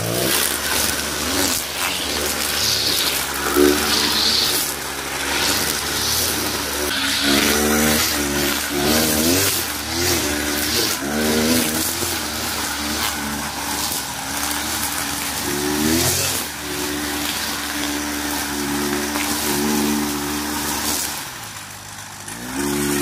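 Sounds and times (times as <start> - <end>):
brush cutter engine revving: 0.0 - 23.0
hiss of cut grass: 0.0 - 23.0.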